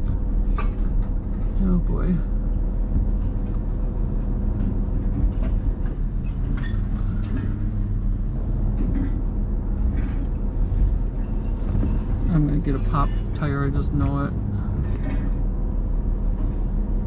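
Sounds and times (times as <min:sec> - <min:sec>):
rattles and knocks: 0:00.0 - 0:01.6, 0:02.4 - 0:15.6
vehicle engine hum: 0:00.0 - 0:17.0.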